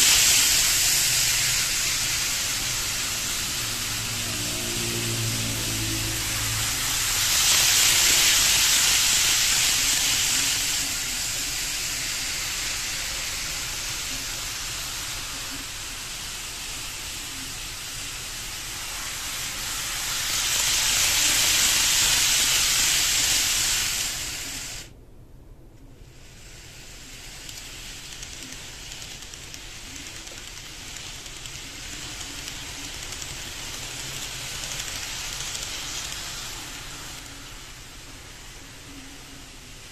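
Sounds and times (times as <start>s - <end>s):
model train rolling on track: 0.0s - 24.9s, 26.0s - 39.9s.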